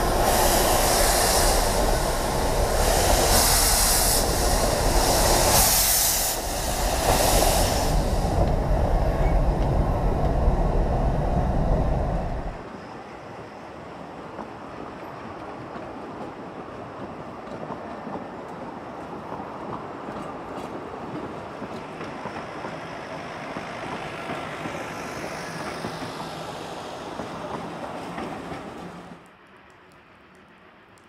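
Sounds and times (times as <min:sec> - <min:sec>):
train carriages rumbling on track: 0:00.0 - 0:29.2.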